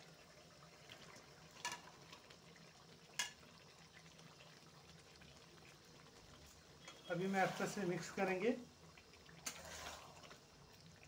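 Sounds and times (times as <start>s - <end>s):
gravy sizzling: 0.0s - 11.0s.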